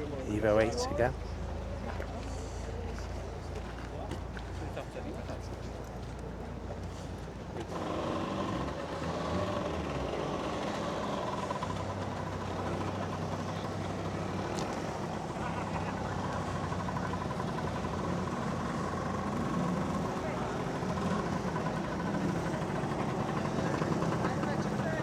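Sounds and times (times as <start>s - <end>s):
faint voices: 0.0s - 25.0s
vehicle engine humming: 0.0s - 25.0s.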